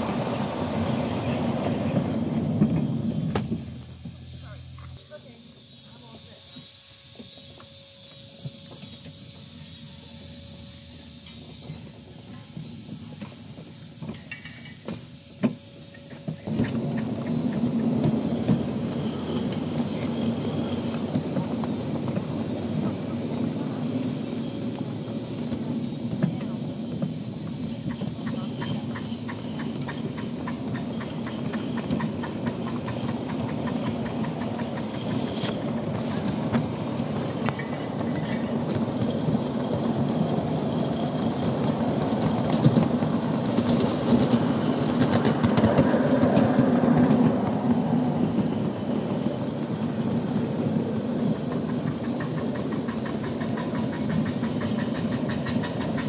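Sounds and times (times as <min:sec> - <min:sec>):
rumble of train wheels: 0:00.0 - 0:56.0.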